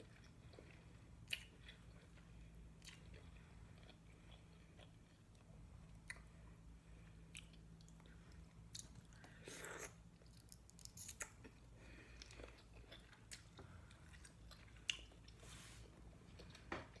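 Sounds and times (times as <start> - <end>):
chewing seafood: 0.0 - 6.4, 7.0 - 15.4.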